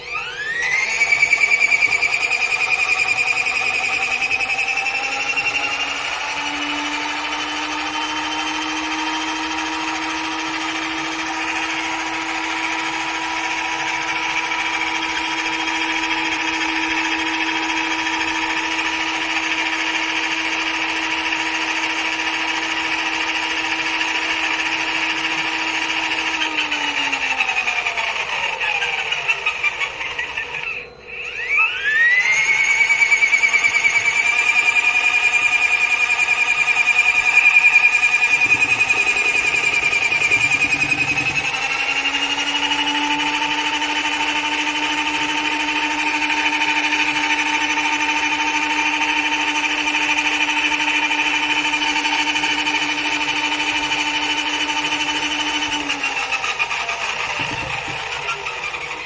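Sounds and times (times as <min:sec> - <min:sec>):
washing machine motor whining: 0:00.0 - 0:59.0.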